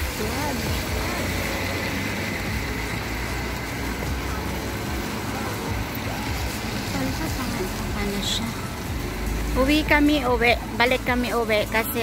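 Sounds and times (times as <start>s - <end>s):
cars driving on wet road: 0.0s - 12.0s.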